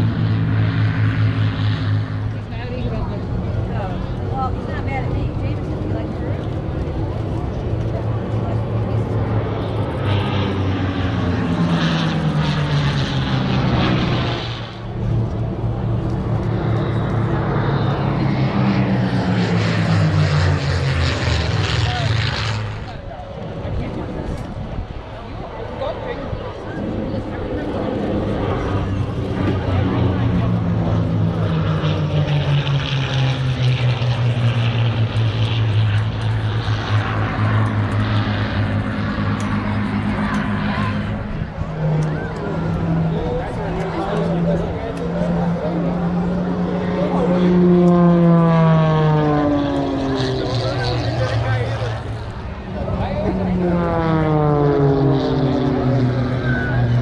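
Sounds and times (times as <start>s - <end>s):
propeller plane engines droning: 0.0s - 57.0s.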